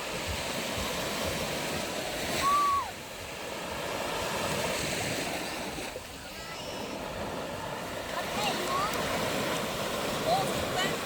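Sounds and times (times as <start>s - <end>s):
sea waves and surf: 0.0s - 11.0s.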